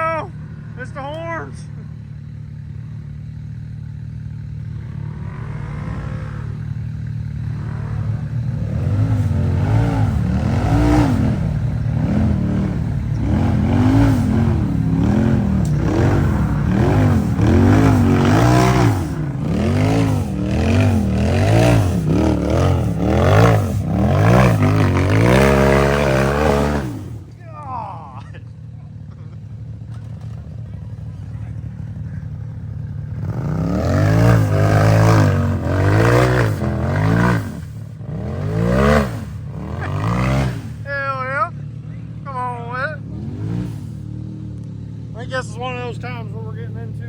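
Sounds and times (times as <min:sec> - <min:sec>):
low engine drone: 0:00.0 - 0:40.9
engine revving: 0:00.0 - 0:47.0.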